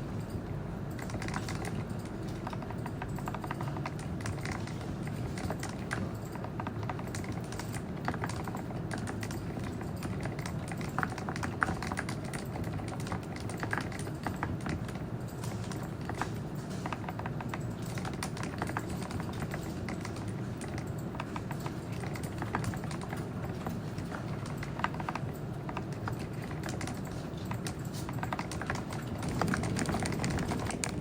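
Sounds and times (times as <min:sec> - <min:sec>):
typing on mechanical keyboard: 0:00.0 - 0:31.0.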